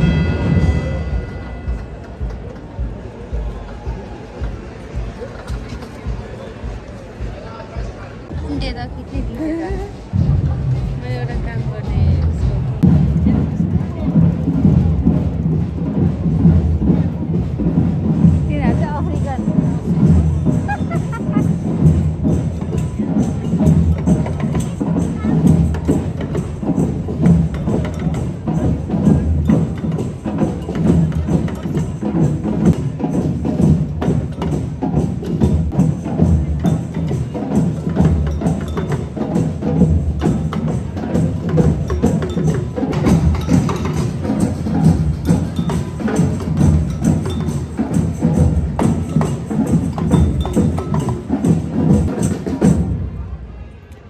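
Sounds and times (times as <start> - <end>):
drums and wooden knocks: 0.0 - 53.3.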